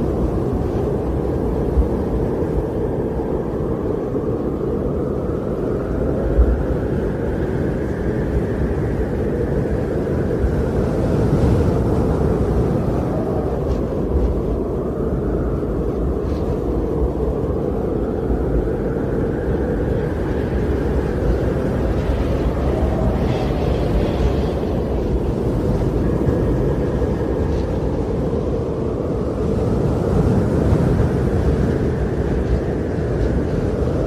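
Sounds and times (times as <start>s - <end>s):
wind blowing: 0.0s - 34.0s.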